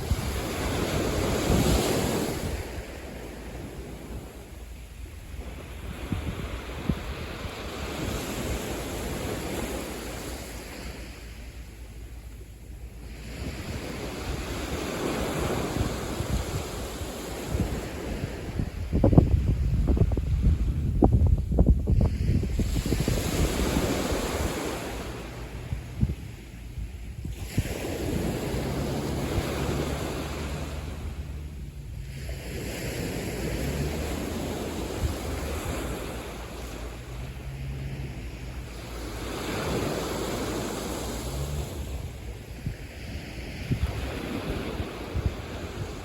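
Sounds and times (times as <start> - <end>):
sea waves breaking on beach: 0.0 - 46.0
wind rumbling on microphone: 0.0 - 46.0.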